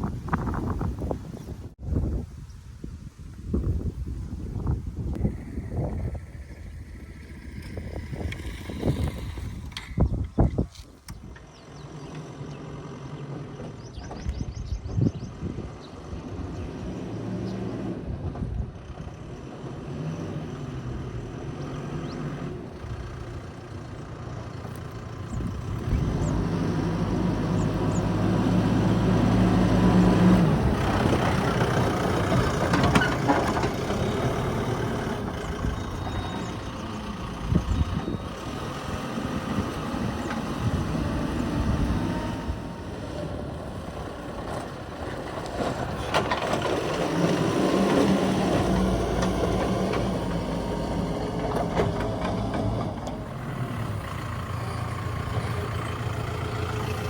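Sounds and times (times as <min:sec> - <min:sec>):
diesel engine running: 0:04.9 - 0:57.0.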